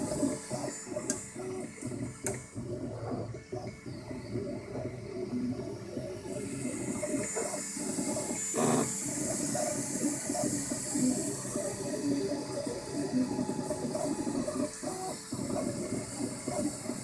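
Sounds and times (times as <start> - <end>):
printer stepper motor tones: 0.0 - 17.0.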